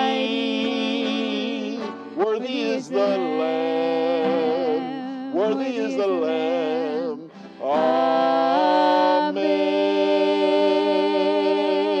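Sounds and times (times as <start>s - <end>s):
acoustic guitar: 0.0s - 12.0s
man singing: 0.0s - 12.0s.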